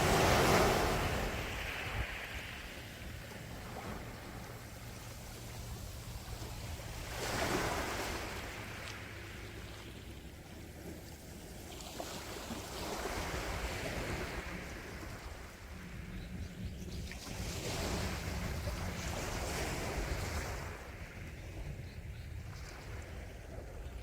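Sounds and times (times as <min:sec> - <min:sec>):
sea waves washing in: 0:00.0 - 0:16.0, 0:17.1 - 0:21.4.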